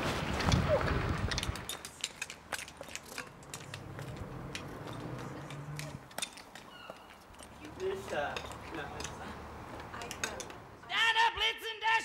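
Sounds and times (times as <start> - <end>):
footsteps on wet pavement: 0.0 - 10.6.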